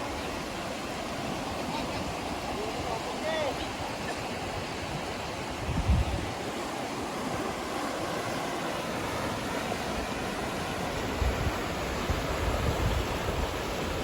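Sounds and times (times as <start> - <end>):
rushing water waves: 0.0 - 14.0.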